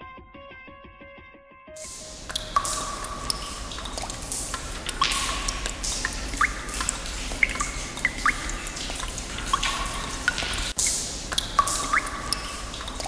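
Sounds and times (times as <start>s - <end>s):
steady hiss: 1.8s - 13.0s
water drops plinking in a cave: 1.8s - 13.0s.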